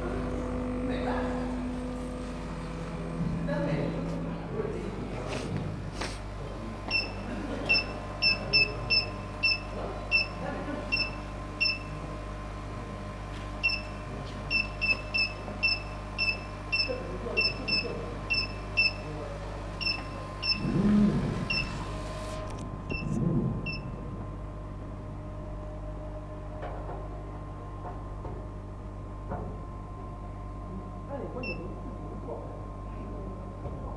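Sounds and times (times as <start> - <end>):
electrical hum: 0.0 - 33.9.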